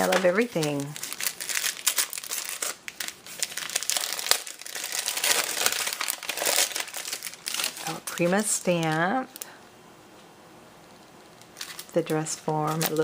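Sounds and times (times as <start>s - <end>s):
plastic and paper crinkling: 0.0s - 9.5s, 10.9s - 13.0s.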